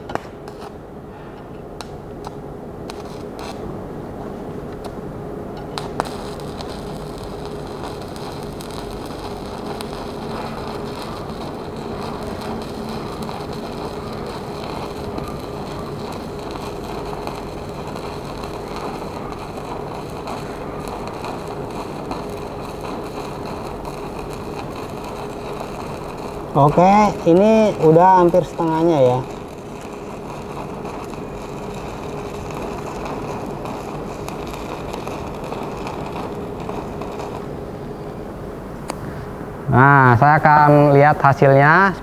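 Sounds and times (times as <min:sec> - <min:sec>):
welding arc crackling: 0:01.8 - 0:03.8, 0:05.6 - 0:38.1.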